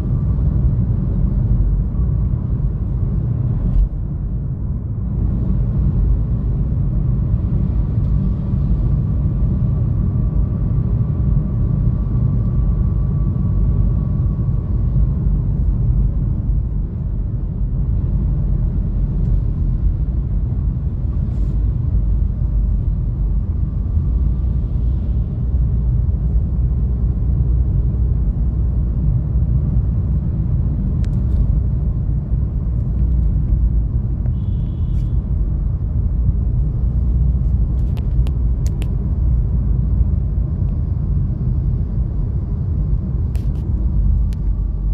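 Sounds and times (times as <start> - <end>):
car road and engine rumble: 0.0 - 44.9.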